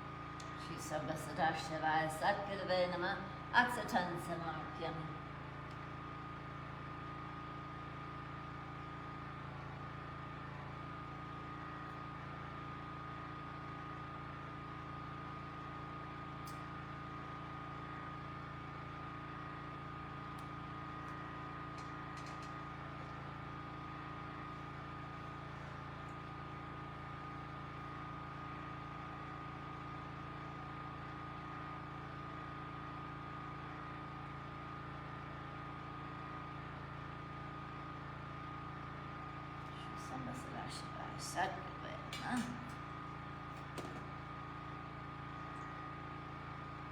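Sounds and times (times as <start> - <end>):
generator humming: 0.0 - 46.9.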